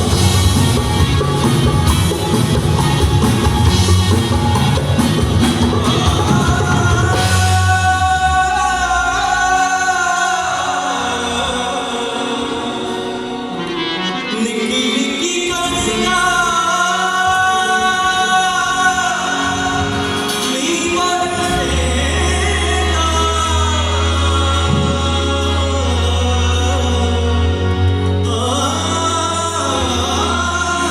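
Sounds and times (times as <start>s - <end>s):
instrumental accompaniment: 0.0s - 30.9s
person singing long notes: 0.0s - 30.9s.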